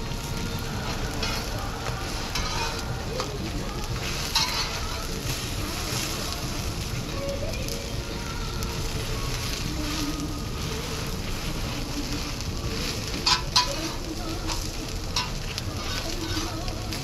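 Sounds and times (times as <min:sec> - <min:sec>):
pancake sizzling in oil: 0:00.0 - 0:17.0
utensil scraping griddle: 0:00.0 - 0:17.0.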